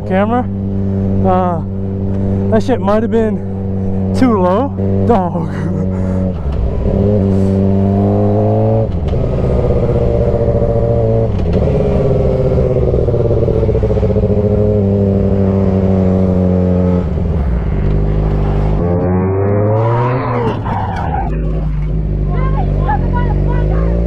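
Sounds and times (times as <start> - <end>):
motorcycle engine shifting gears: 0.0 - 24.0.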